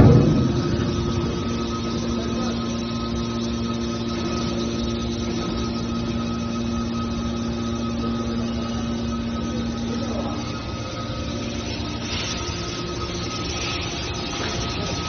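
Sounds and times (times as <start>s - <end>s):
hydraulic machinery hum with whine: 0.0s - 15.0s.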